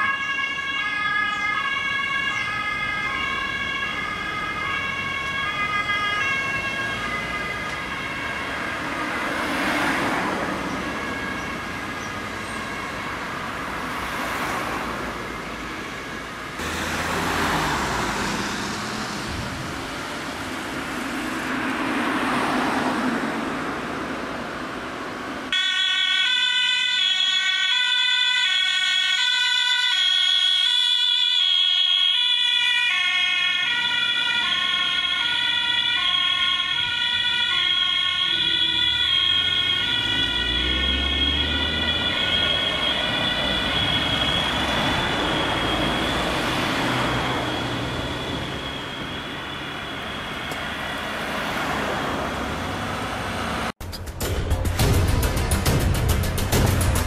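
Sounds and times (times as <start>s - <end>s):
two-tone ambulance siren: 0.0s - 53.8s
passing cars road noise: 0.0s - 57.0s.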